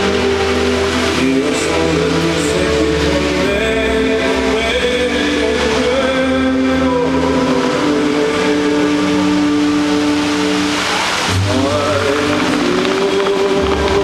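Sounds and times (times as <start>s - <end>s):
music over loudspeakers: 0.0s - 14.0s
water jets hissing: 0.0s - 14.0s.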